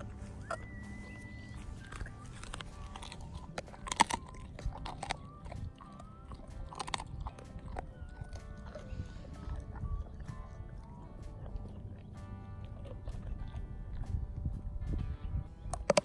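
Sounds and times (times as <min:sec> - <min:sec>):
dog chewing and crunching bone: 0:00.0 - 0:14.6, 0:15.7 - 0:16.0.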